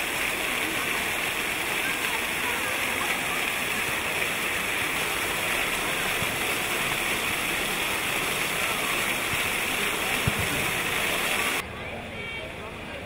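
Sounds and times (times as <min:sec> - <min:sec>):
fountain jets splashing: 0:00.0 - 0:13.0.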